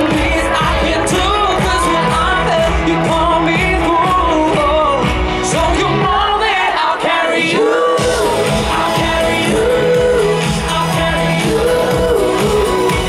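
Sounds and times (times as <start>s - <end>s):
dance-pop backing beat: 0.0s - 13.0s
male vocal group singing: 0.0s - 13.0s.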